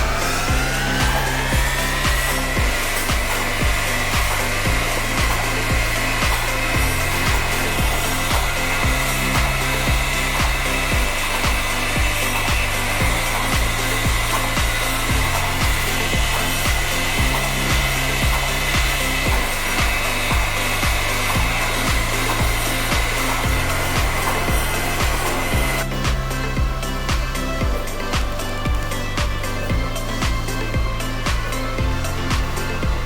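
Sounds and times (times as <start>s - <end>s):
background music with beat: 0.0s - 33.0s
high-pitched whine: 0.0s - 33.0s.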